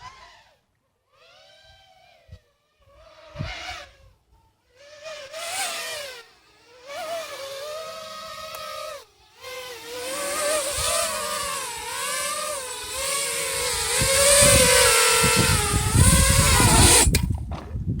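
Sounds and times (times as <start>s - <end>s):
quadcopter motors whining: 0.0s - 17.5s.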